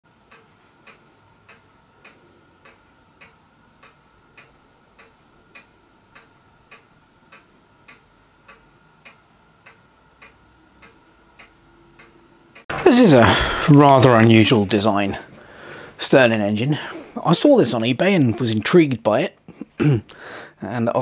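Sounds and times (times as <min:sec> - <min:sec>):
steady ticking: 0:00.1 - 0:18.6
faint high hum: 0:00.1 - 0:21.0.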